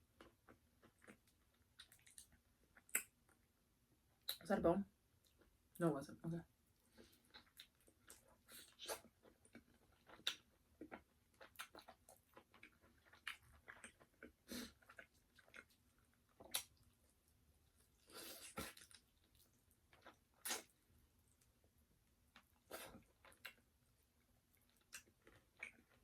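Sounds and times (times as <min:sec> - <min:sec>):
crunching and wet chewing: 0:00.2 - 0:03.4, 0:06.9 - 0:21.6, 0:22.3 - 0:23.8, 0:24.4 - 0:26.0.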